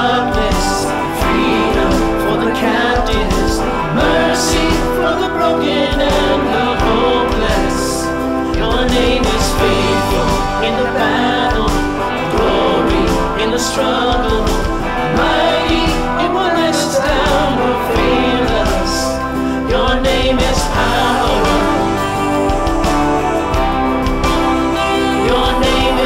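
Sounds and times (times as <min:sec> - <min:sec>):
acoustic guitar: 0:00.0 - 0:26.0
drum kit with cymbals: 0:00.0 - 0:26.0
keyboard: 0:00.0 - 0:26.0
men and women singing: 0:00.0 - 0:26.0.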